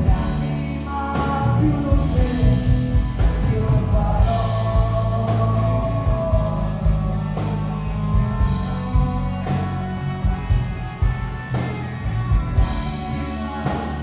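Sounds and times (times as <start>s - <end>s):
live rock band playing: 0.0s - 14.0s
sustained guitar line: 0.0s - 14.0s.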